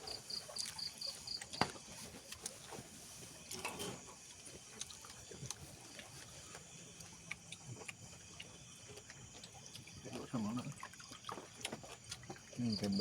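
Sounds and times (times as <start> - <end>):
chewing: 0.1 - 13.0.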